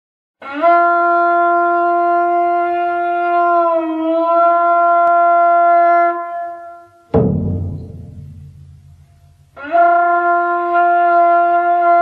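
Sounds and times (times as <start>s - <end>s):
horn long held note: 0.4s - 12.0s.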